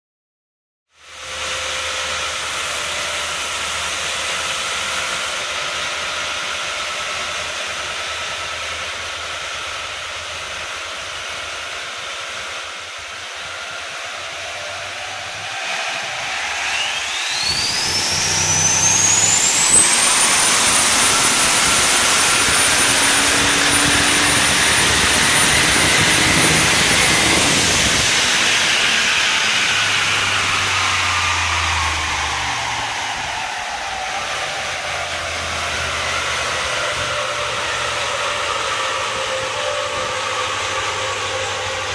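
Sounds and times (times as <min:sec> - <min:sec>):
car engine running on dyno: 0:00.9 - 0:41.9
turbo whine: 0:01.0 - 0:41.9.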